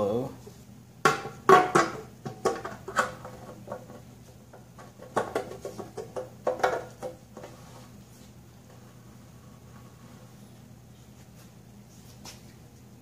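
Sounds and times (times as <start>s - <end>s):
faint shop hum: 0.0s - 13.0s.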